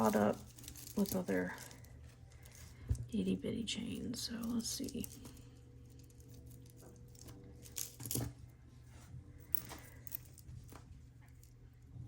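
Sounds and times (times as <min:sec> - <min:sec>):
jewelry chains and beads clinking: 0:00.0 - 0:08.4, 0:09.4 - 0:11.9.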